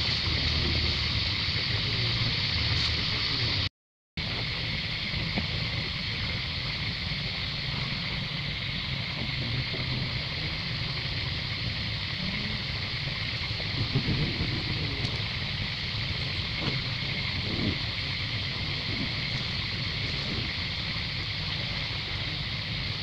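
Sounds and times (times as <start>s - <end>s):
steady high hiss: 0.0s - 23.0s
wind rumbling on microphone: 0.0s - 23.0s.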